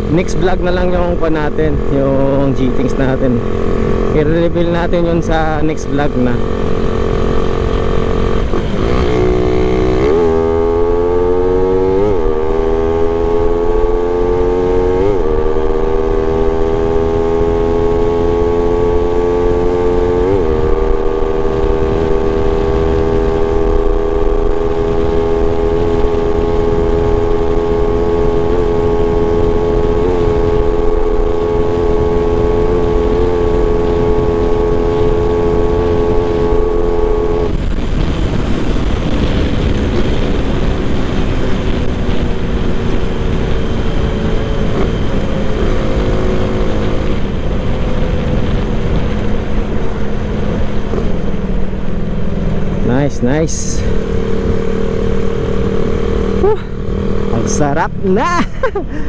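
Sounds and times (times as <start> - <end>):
wind rumble on microphone: 0.0 - 58.1
motorcycle engine accelerating: 0.0 - 59.0.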